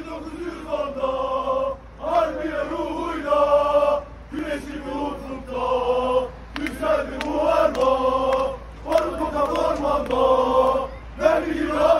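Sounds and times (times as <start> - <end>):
men chanting in unison: 0.0 - 11.9.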